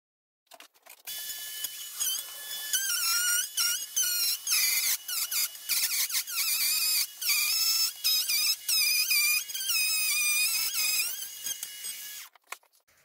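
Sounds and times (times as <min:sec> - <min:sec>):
router bit cutting wood: 0:01.1 - 0:12.3
trim router whining: 0:01.1 - 0:12.3.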